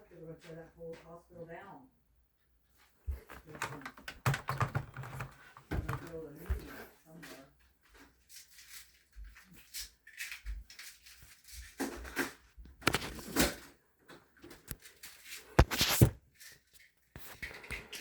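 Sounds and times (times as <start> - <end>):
objects being handled: 3.1 - 18.0.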